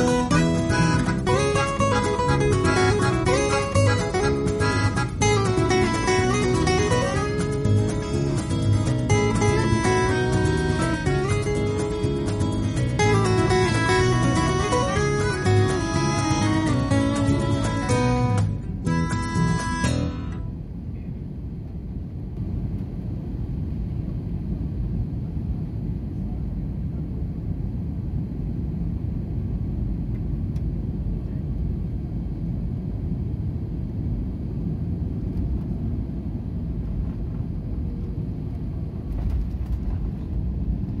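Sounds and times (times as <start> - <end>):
jet engine and airflow rumble: 0.0 - 41.0.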